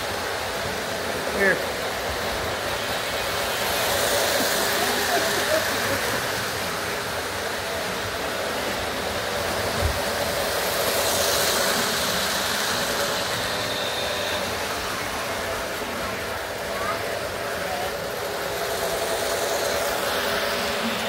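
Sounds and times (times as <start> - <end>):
electric motor whir: 2.0 - 21.0.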